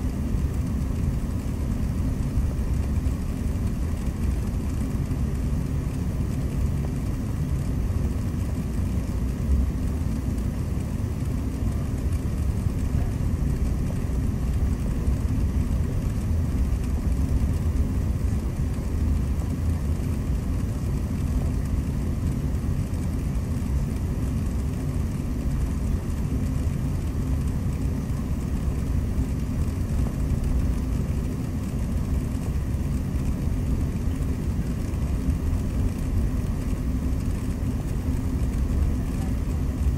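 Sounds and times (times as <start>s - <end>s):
cabin air conditioning: 0.0s - 39.9s
jet engines rumbling: 0.0s - 39.9s.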